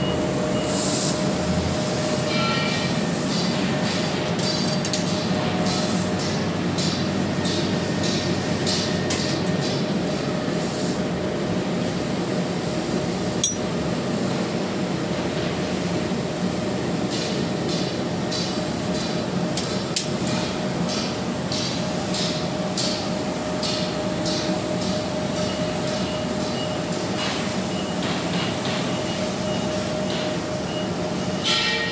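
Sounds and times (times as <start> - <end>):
laser cutting machine hum: 0.0 - 31.9.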